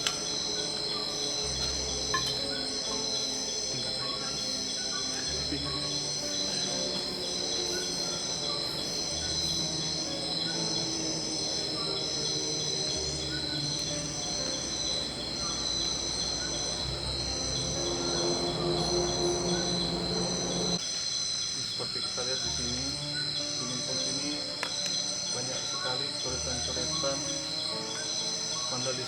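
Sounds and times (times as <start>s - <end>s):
insect pulsing trill: 0.0s - 29.0s
insect steady shrill trill: 0.0s - 29.0s.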